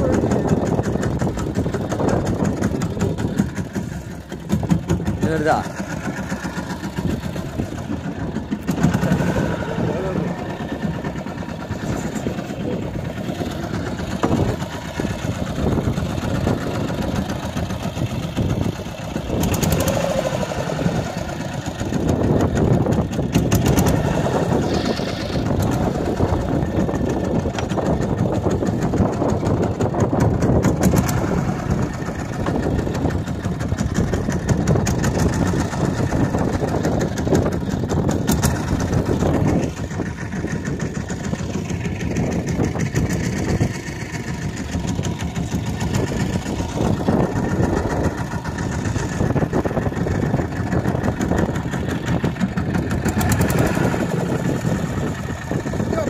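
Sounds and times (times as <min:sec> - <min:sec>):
boat engine running: 0:00.0 - 0:56.0
water noise: 0:00.0 - 0:56.0
wind: 0:00.0 - 0:56.0.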